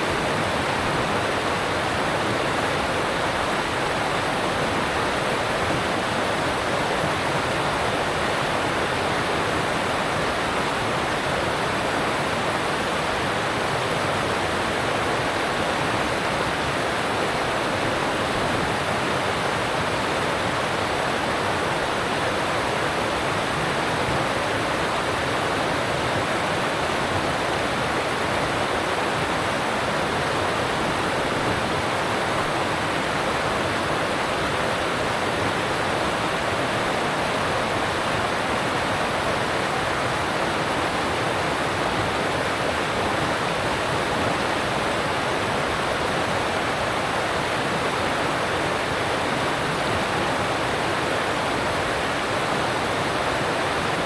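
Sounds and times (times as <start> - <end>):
mountain stream rushing over rocks: 0.0 - 54.0.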